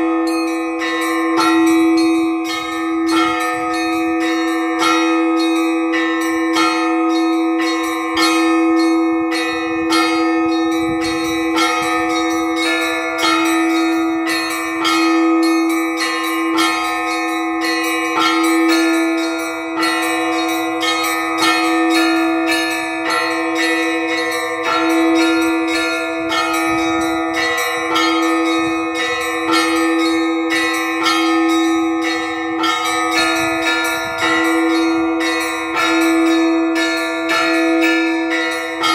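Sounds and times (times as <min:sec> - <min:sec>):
low church bell ringing: 0:00.0 - 0:38.9
quick strikes on small bells: 0:00.0 - 0:38.9.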